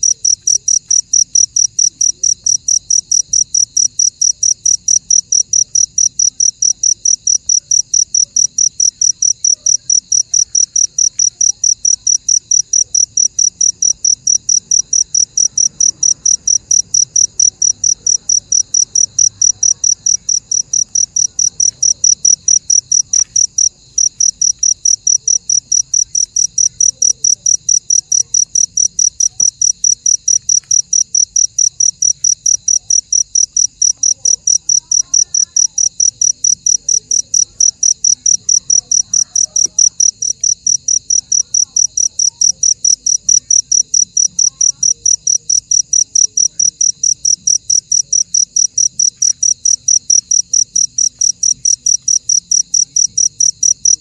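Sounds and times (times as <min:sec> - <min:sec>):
insect chirping: 0:00.0 - 0:54.0.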